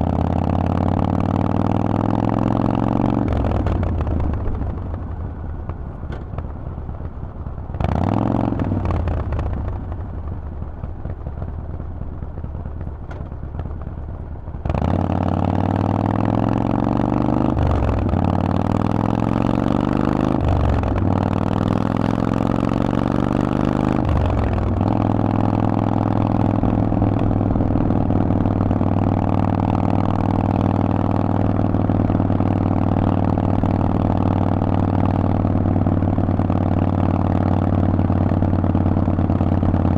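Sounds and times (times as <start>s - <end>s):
motorcycle engine revving: 0.0s - 5.2s, 7.7s - 10.1s, 14.6s - 39.9s.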